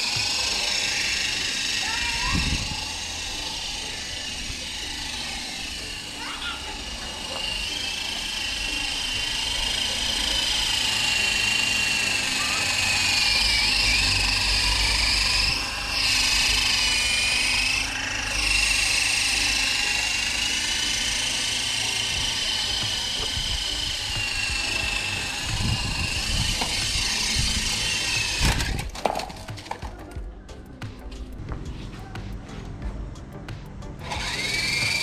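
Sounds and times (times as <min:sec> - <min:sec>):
toy helicopter motor whine: 0:00.0 - 0:29.8, 0:34.0 - 0:35.0.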